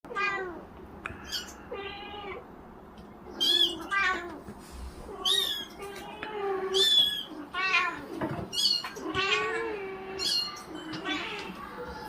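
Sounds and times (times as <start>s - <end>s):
kittens meowing: 0.1s - 2.5s, 3.3s - 4.4s, 5.0s - 12.0s.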